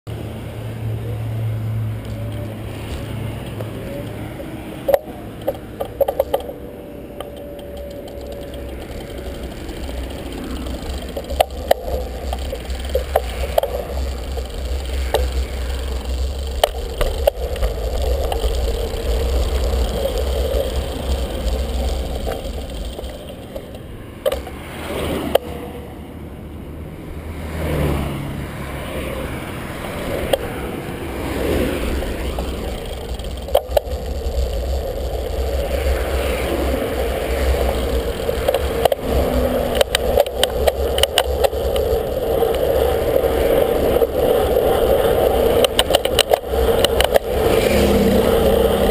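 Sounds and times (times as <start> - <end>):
bicycle clicks and rattles over bumps: 0.1 - 25.9, 28.8 - 48.9
vehicle passing close: 0.1 - 48.9
wind and road rumble: 0.1 - 48.9.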